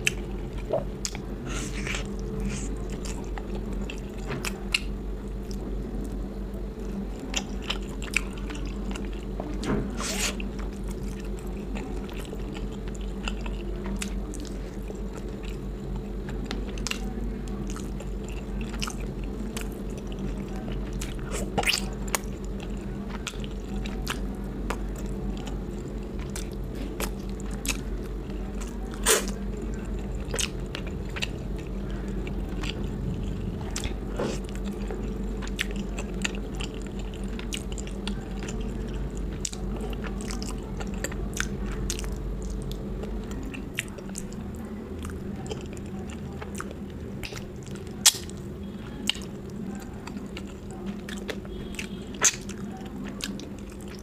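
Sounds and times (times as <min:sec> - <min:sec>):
person chewing food: 0:00.0 - 0:06.2, 0:06.8 - 0:54.0
steady low hum: 0:00.0 - 0:54.0.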